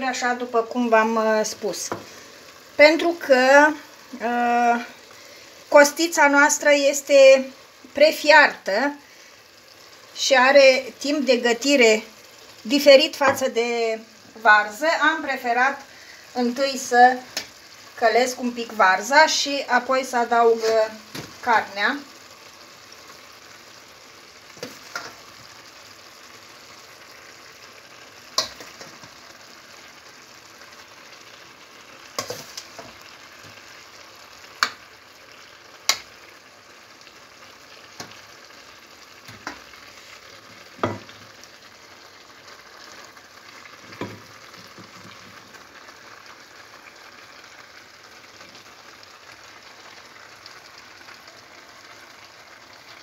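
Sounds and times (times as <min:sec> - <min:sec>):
vegetables sizzling in a pot: 0:00.0 - 0:53.0.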